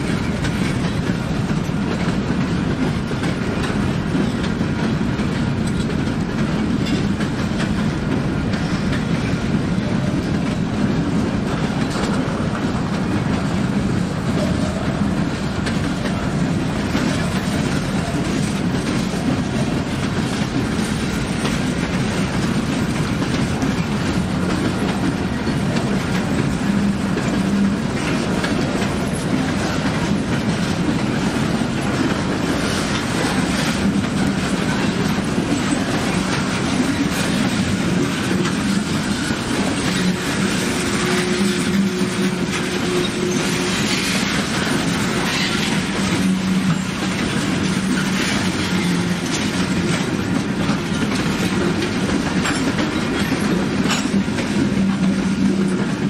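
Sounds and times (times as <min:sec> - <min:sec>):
freight train rumbling past: 0:00.0 - 0:56.0
wheels clattering over rails: 0:00.0 - 0:56.0.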